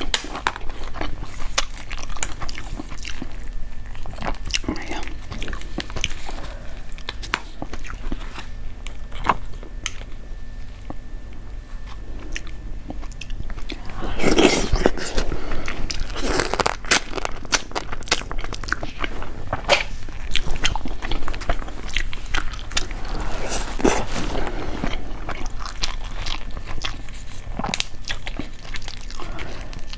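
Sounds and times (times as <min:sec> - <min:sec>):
person biting and chewing: 0:00.0 - 0:10.2, 0:11.8 - 0:29.9.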